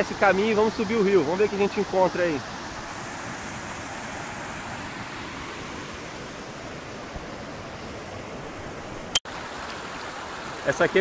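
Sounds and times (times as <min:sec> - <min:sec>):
river water over rocks: 0:00.0 - 0:11.0.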